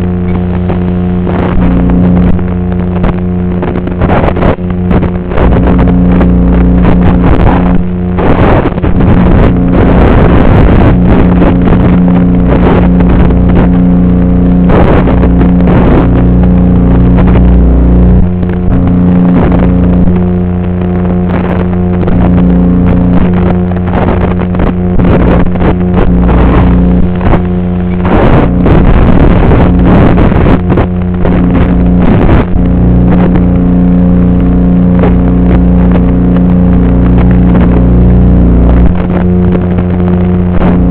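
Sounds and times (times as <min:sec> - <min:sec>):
crackling static: 0:00.0 - 0:40.9
loud buzzing hum: 0:00.0 - 0:40.9.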